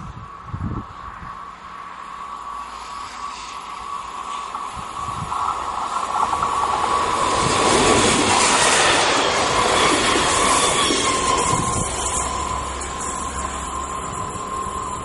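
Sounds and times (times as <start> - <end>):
train passing at speed: 0.0 - 15.0
wheels on rail rushing: 0.0 - 15.0.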